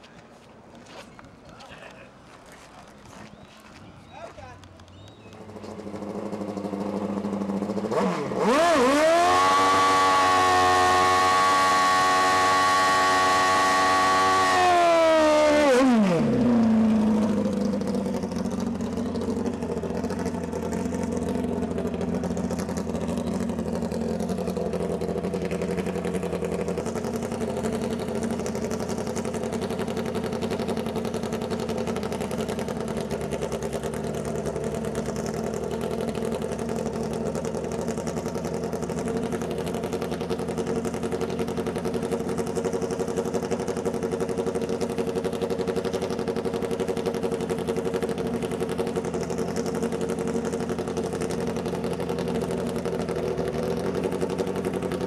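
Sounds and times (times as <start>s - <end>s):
motorcycle engine idling: 2.8s - 8.0s, 9.4s - 55.0s.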